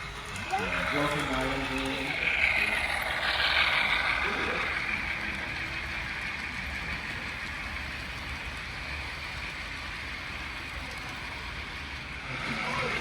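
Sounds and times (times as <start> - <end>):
model train whirring on track: 0.0 - 13.0.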